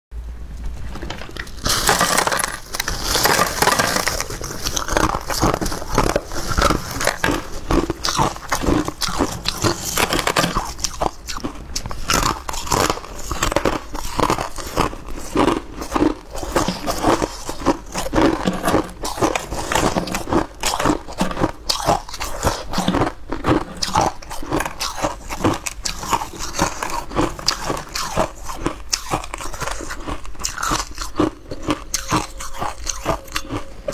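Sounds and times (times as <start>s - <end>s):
ice being chewed: 0.8s - 33.9s.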